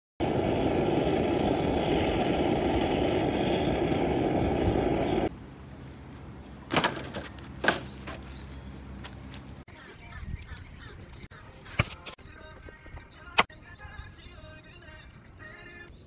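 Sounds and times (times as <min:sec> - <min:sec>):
open-air ambience: 0:00.2 - 0:16.0.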